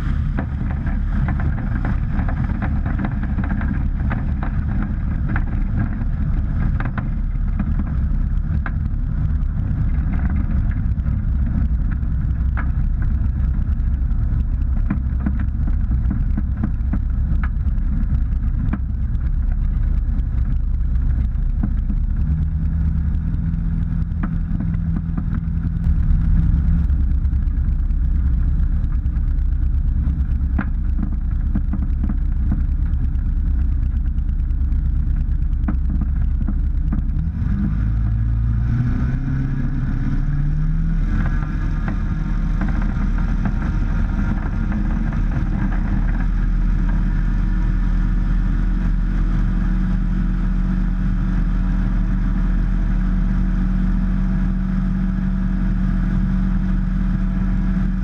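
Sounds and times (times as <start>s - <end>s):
ultralight aircraft engine running: 0.0s - 58.0s.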